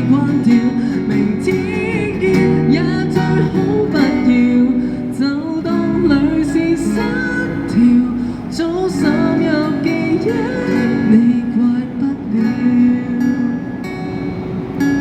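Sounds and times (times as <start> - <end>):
person singing: 0.0 - 13.6
acoustic guitar strumming: 0.0 - 15.0.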